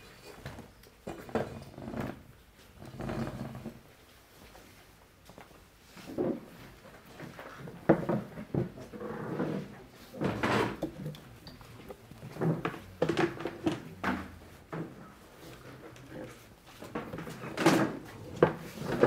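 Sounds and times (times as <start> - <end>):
chairs knocking and scraping: 0.3 - 3.8, 6.0 - 19.0.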